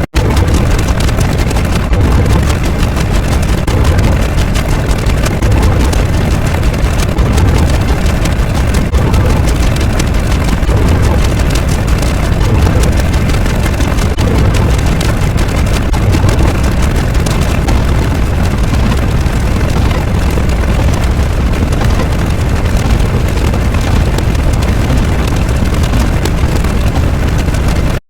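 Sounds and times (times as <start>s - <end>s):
loud dense rumbling: 0.0s - 28.0s.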